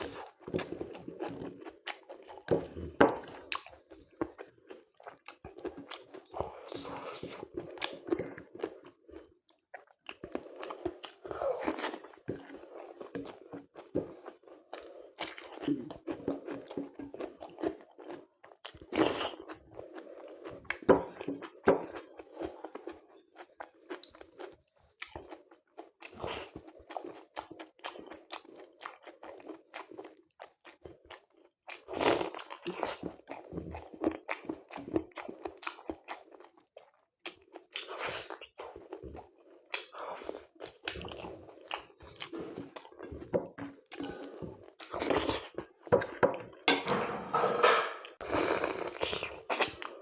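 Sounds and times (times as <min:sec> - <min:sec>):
person chewing food: 0:00.0 - 0:46.8, 0:48.0 - 0:50.0.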